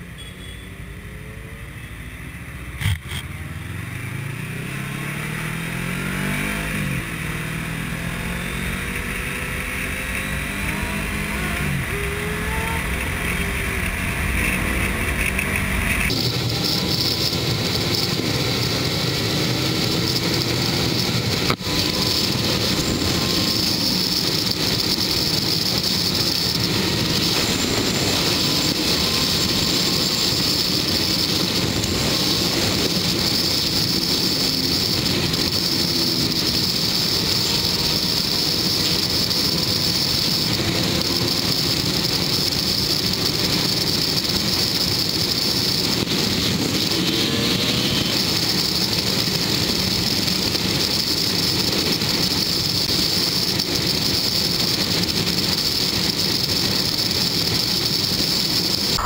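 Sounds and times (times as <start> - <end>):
motorcycle engine running: 0.2 - 59.0.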